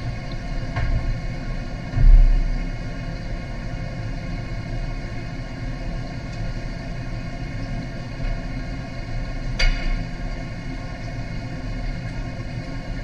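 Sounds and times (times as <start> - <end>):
low mechanical hum and rumble: 0.0 - 13.0.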